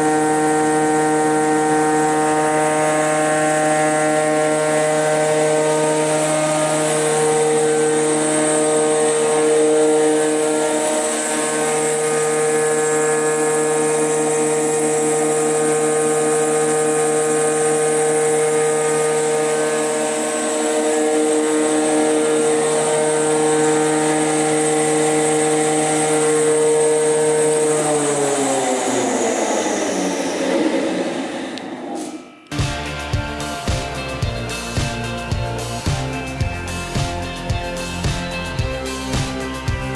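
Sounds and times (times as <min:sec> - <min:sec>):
planer running and spinning down: 0:00.0 - 0:39.9.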